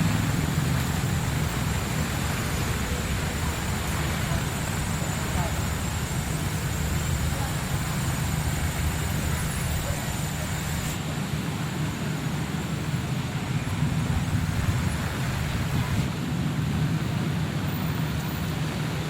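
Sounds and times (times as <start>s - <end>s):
heavy rain hissing: 0.0s - 19.0s
traffic rumble: 0.0s - 19.0s.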